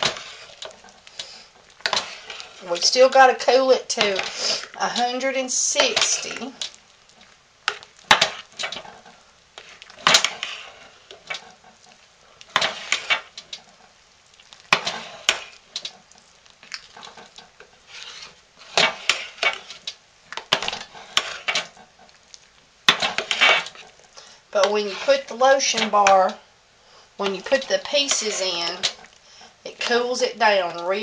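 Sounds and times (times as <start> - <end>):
spoon scraping thick soap: 0.0 - 6.8, 7.7 - 13.4, 14.5 - 15.9, 16.8 - 26.3, 27.2 - 30.8.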